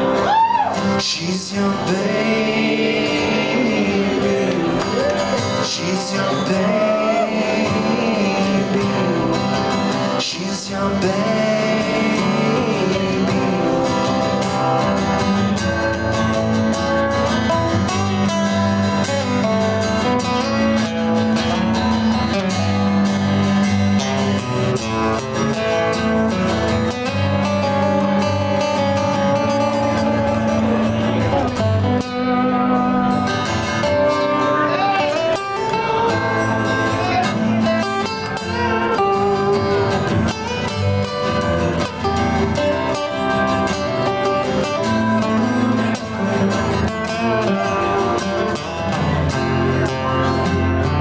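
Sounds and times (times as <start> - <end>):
acoustic guitars strummed and picked: 0.0 - 51.0.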